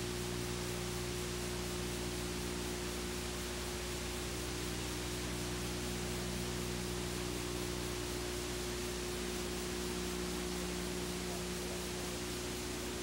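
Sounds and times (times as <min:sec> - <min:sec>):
low electrical hum: 0:00.0 - 0:13.0
tape hiss: 0:00.0 - 0:13.0.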